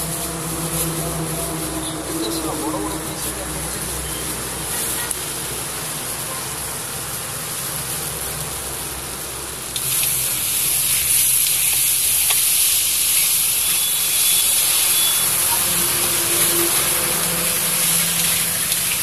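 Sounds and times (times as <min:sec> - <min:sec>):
chicken sizzling in hot oil: 0:03.0 - 0:19.0.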